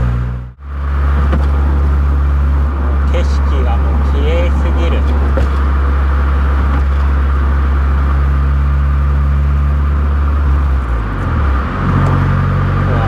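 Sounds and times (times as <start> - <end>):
car engine droning at cruise: 0.0 - 13.0
road noise: 0.0 - 13.0.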